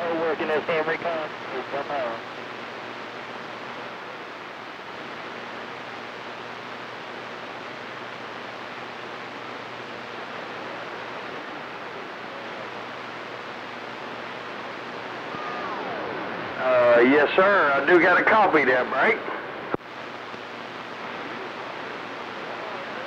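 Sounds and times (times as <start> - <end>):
faint low hum: 0.0 - 23.0
radio static hiss: 0.0 - 23.0.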